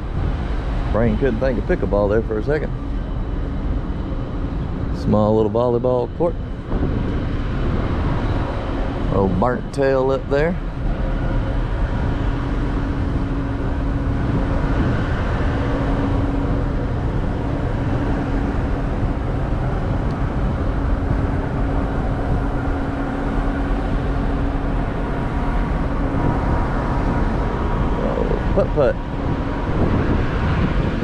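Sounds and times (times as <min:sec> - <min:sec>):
ship ventilation machinery drone: 0:00.0 - 0:31.0.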